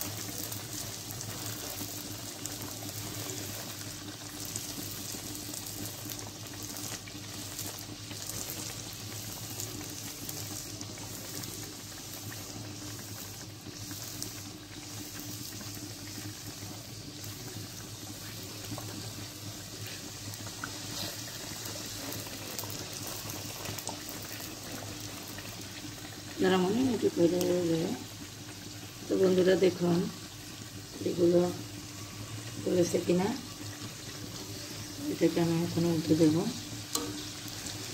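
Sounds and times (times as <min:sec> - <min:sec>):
flatbreads deep-frying in oil: 0:00.0 - 0:37.9.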